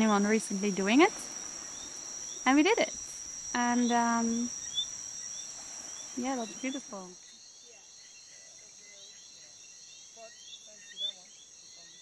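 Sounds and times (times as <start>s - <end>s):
insect chorus: 0.0s - 12.0s
short insect chirps: 0.0s - 12.0s.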